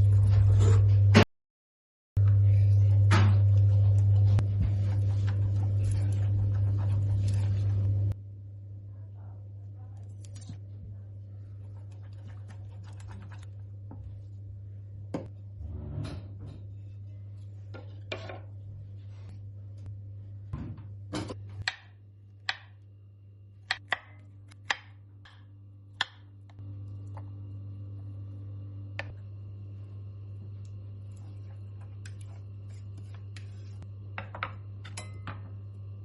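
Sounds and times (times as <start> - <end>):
steady low hum: 2.2 - 36.0.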